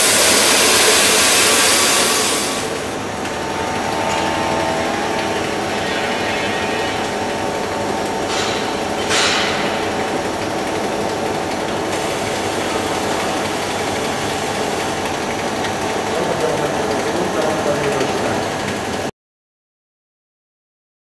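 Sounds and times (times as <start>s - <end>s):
polishing machine hum and hiss: 0.0s - 18.8s.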